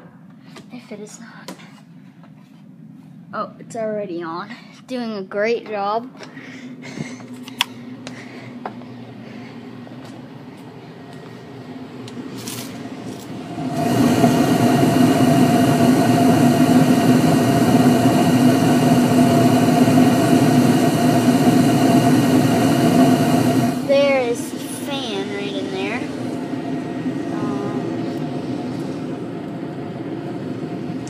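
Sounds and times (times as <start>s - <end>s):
gas furnace fan humming: 0.0s - 31.0s.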